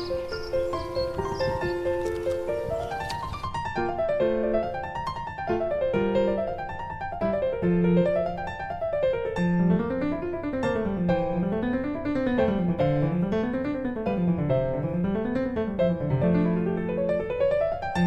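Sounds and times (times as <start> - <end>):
piano arpeggios: 0.0 - 18.0.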